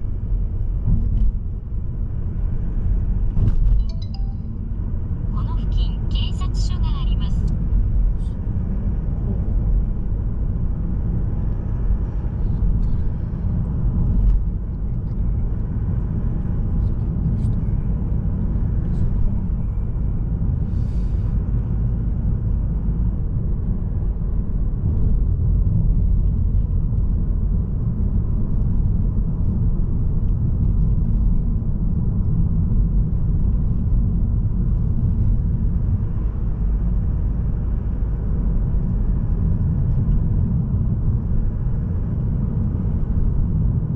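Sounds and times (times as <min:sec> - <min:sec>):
road and tyre rumble: 0:00.0 - 0:43.9.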